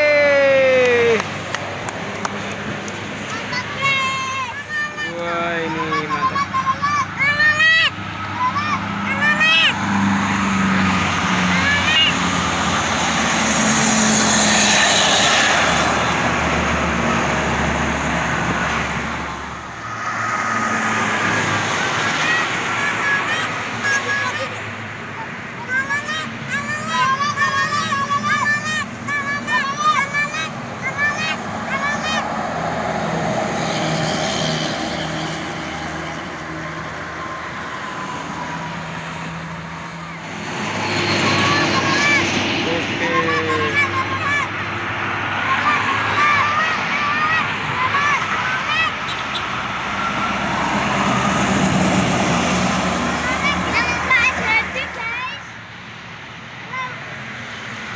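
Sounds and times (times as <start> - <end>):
vehicles passing on highway: 0.0 - 57.9.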